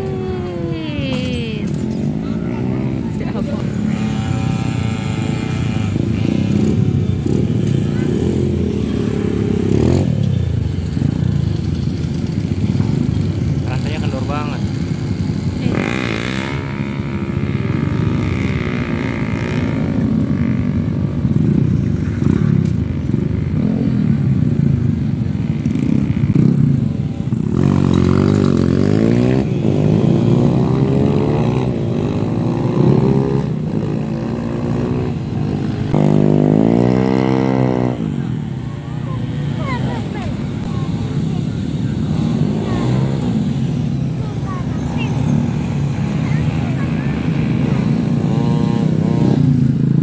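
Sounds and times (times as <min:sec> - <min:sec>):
motorcycle engines revving: 0:00.0 - 0:50.0.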